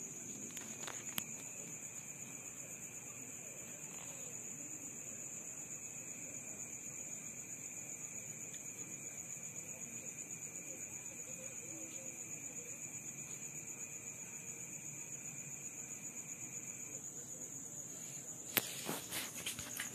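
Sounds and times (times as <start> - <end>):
insects trilling: 0.0 - 19.9
lower steady insect tone: 0.0 - 19.9.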